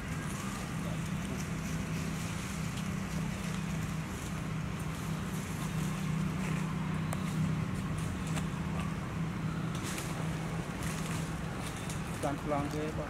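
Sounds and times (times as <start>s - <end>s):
distant motor humming: 0.0s - 13.0s.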